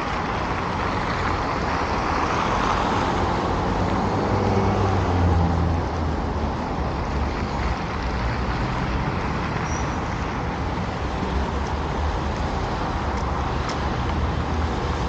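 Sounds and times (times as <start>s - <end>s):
road vehicles passing: 0.0s - 15.0s
vehicle engine hum: 0.0s - 15.0s.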